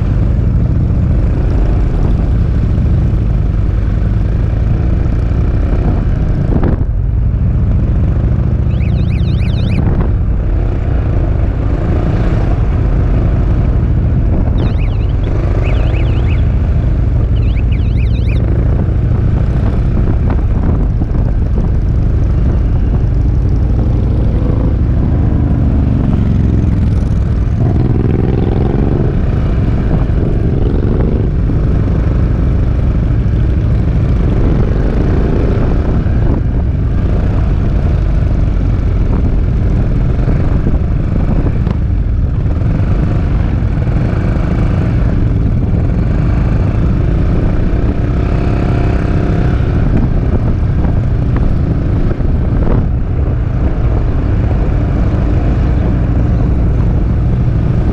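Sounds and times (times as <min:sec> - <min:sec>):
wind rumble on microphone: 0:00.0 - 0:57.9.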